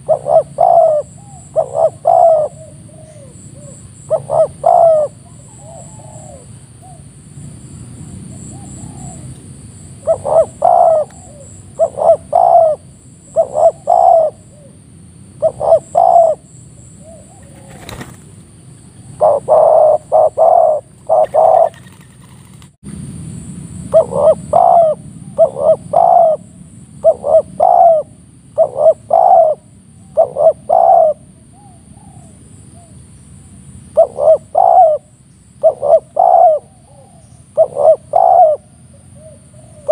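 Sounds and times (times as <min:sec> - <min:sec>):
doves cooing: 0:00.0 - 0:07.1, 0:08.2 - 0:09.4, 0:10.0 - 0:14.8, 0:15.4 - 0:18.3, 0:19.0 - 0:22.7, 0:23.9 - 0:33.0, 0:34.0 - 0:39.9.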